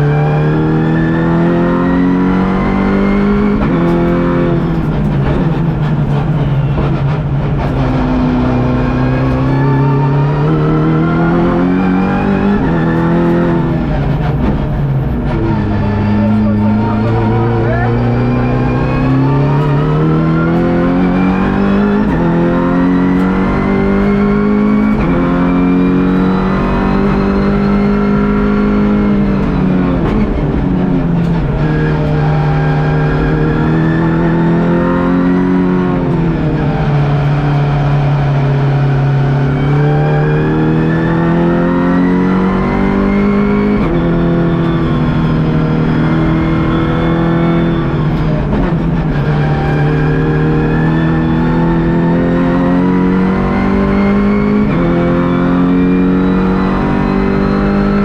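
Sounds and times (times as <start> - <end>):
race car engine from inside cabin: 0.0 - 58.0.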